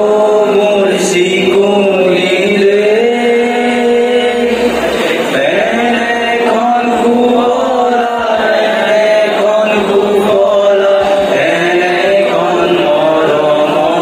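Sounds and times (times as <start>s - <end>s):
group singing in unison: 0.0s - 14.0s.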